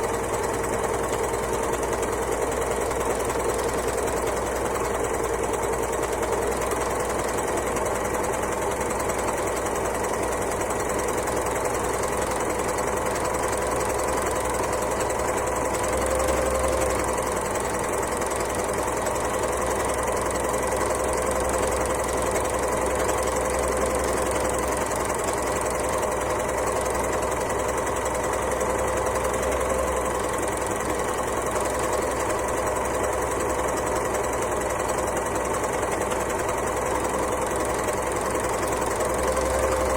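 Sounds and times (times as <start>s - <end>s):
overlocker running: 0.0s - 39.9s.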